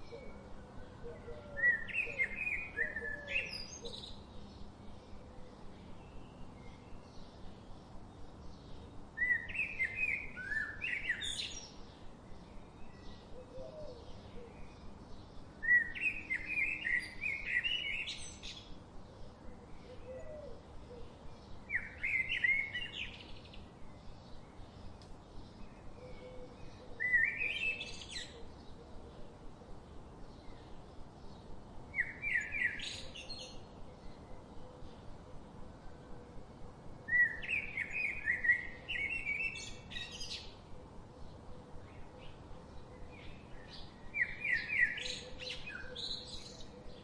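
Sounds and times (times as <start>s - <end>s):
background bird chirps: 0.0s - 47.0s.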